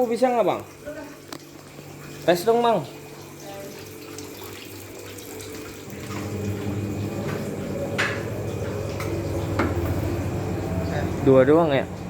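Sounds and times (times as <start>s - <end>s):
exhaust fan motor hum: 0.0s - 12.0s.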